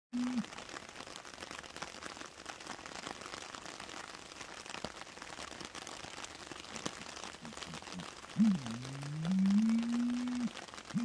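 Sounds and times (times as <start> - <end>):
steady rain: 0.1 - 11.0.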